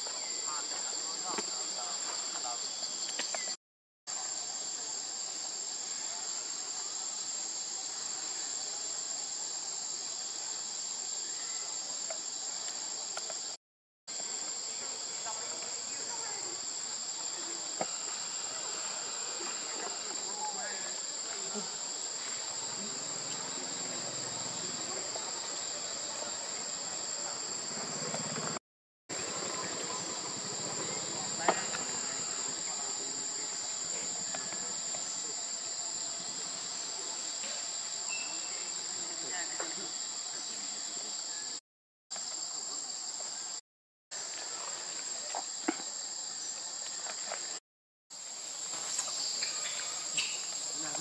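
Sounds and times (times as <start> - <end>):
insect chorus drone: 0.0 - 43.6, 44.2 - 47.6, 48.2 - 51.0.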